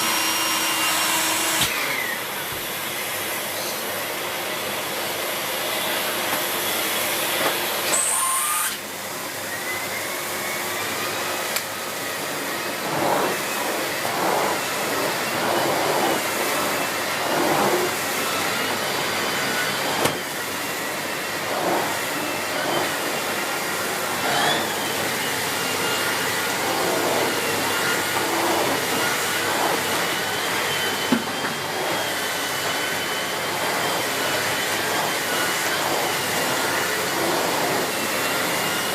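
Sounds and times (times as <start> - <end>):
vacuum cleaner motor running: 0.0 - 38.9.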